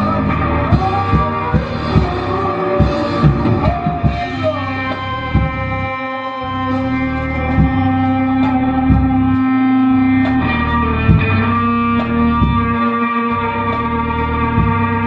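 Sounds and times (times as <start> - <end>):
electric guitar ringing chords: 0.0 - 15.0.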